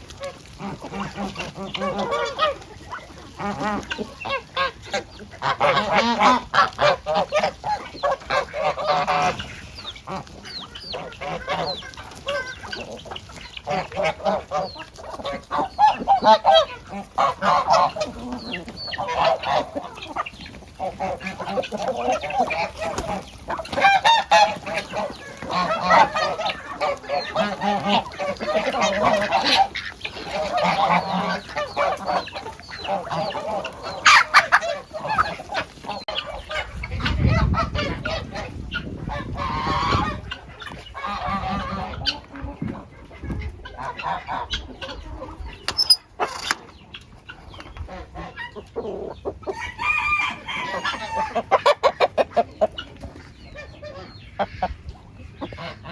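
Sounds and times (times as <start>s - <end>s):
chickens clucking: 0.0s - 55.9s
geese honking: 0.0s - 55.9s.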